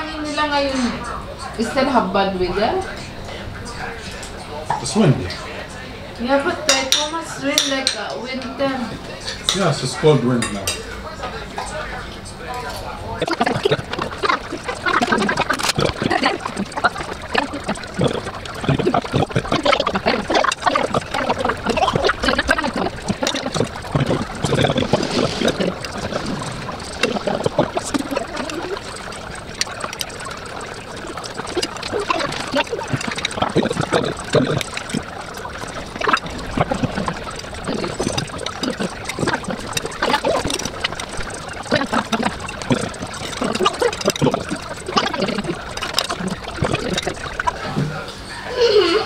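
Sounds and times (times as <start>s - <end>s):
low voices: 0.0s - 49.0s.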